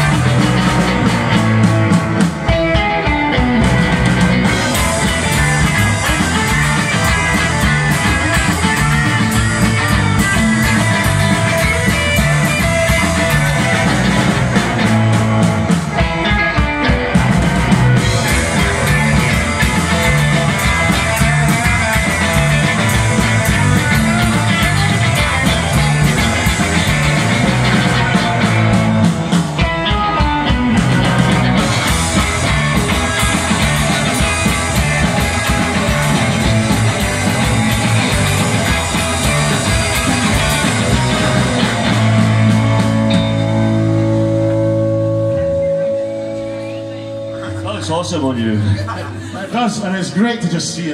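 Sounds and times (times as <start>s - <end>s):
surf rock band playing: 0.0s - 50.9s.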